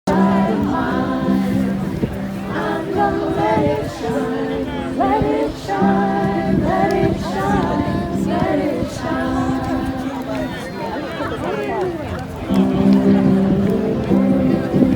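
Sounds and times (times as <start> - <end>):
group of people singing: 0.0 - 10.9, 12.4 - 14.9.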